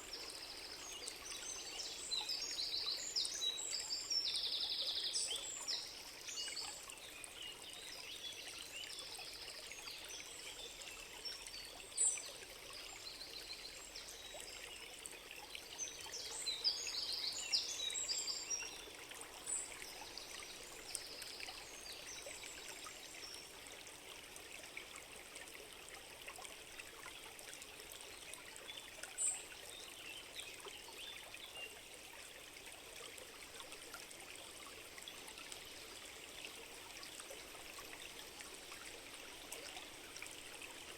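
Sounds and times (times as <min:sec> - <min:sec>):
stream trickling: 0:00.0 - 0:40.9.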